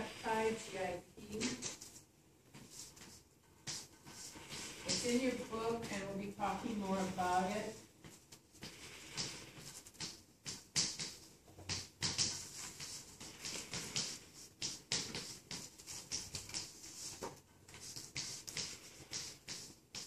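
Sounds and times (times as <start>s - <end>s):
soft rustling and clicking: 1.2s - 20.0s.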